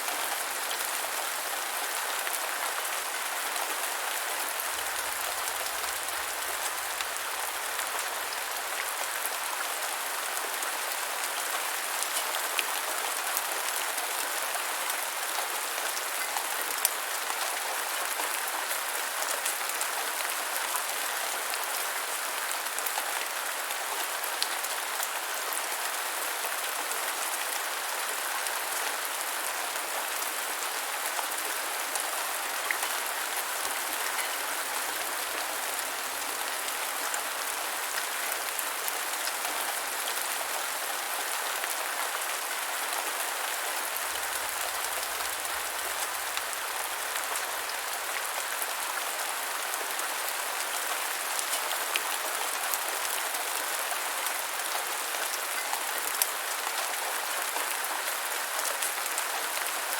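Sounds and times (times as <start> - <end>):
rain hissing on ground: 0.1 - 59.2.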